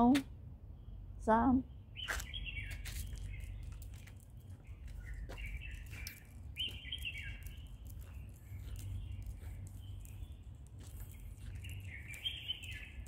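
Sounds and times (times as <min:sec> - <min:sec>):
birds chirping: 0:00.0 - 0:13.0
low background rumble: 0:00.0 - 0:13.0.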